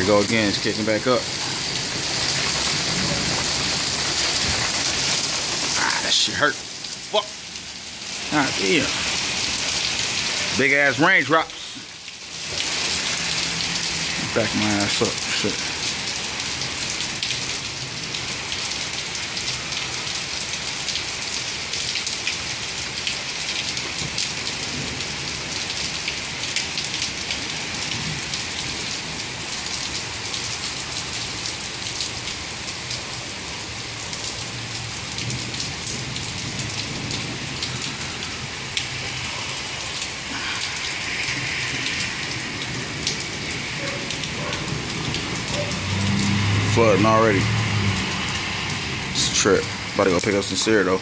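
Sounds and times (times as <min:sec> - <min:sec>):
heavy rain hissing: 0:00.0 - 0:51.0
raindrops ticking close by: 0:00.0 - 0:51.0.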